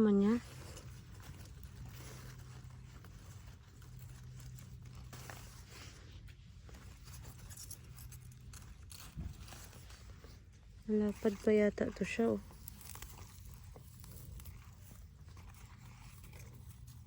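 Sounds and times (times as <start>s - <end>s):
faint rustling and scraping: 0.0s - 17.0s
low steady hum: 0.0s - 17.0s.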